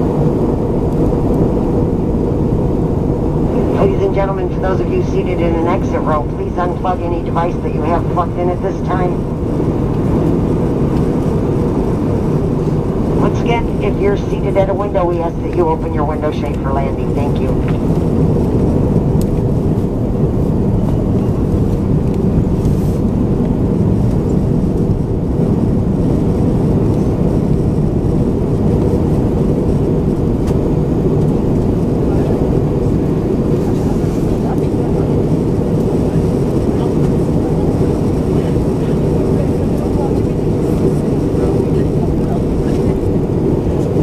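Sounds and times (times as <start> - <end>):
aircraft cabin engine drone: 0.0 - 44.0
airflow over fuselage: 0.0 - 44.0.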